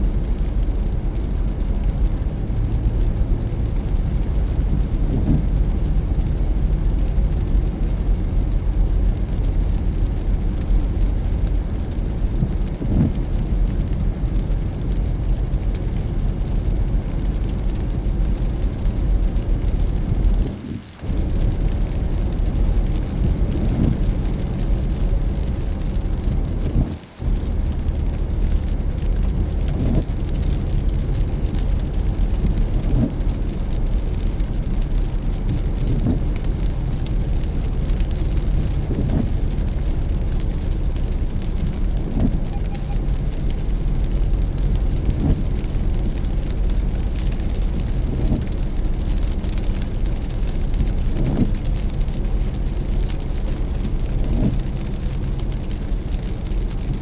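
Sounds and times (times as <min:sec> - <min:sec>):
car engine and tyres rumbling: 0:00.0 - 0:57.0
rain hiss: 0:00.0 - 0:57.0.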